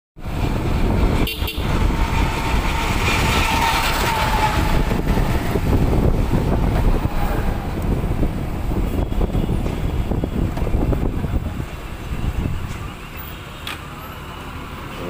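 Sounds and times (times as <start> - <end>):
wind buffeting microphone: 0.2 - 13.0
vehicle road noise rumble: 0.2 - 15.0.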